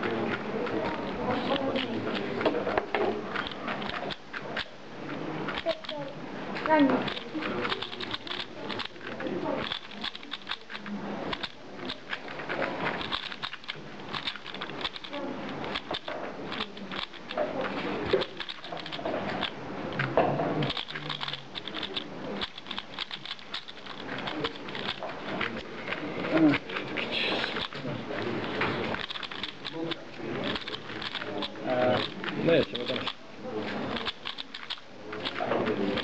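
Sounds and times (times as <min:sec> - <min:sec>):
puzzle cube clicking: 0:00.0 - 0:04.8, 0:05.4 - 0:27.8, 0:28.4 - 0:33.2, 0:33.9 - 0:36.0.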